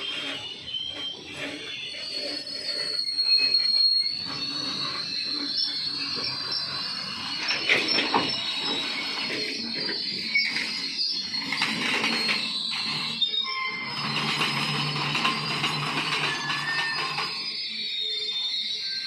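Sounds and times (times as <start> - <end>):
train wheels rumbling on rails: 0.0 - 17.7
high wheel squeal: 0.0 - 19.0.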